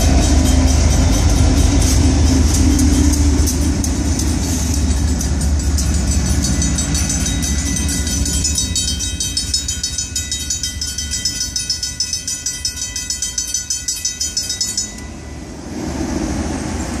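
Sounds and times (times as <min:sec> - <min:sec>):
railroad crossing bells ringing: 0:00.0 - 0:15.6
freight train rumbling: 0:00.0 - 0:17.0
road traffic: 0:00.0 - 0:17.0.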